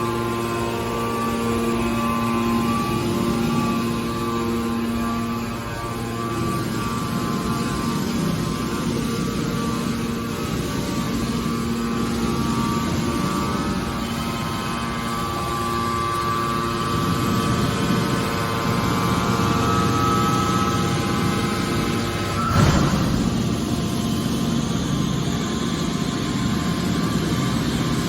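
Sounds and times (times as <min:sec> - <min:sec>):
baler machine hum with whine: 0:00.0 - 0:28.0.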